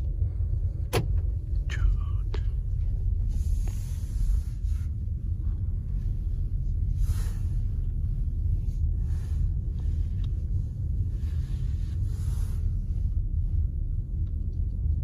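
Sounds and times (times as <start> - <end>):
car interior road and engine rumble: 0.0 - 15.0.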